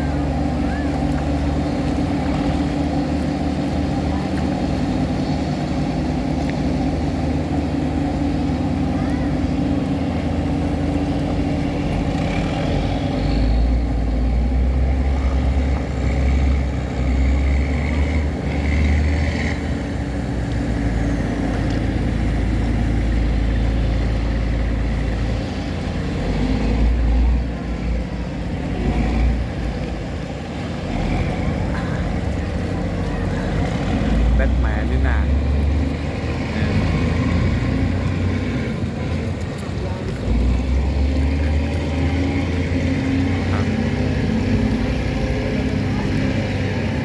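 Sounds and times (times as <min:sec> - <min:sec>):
diesel engine rumbling: 0:00.0 - 0:47.0.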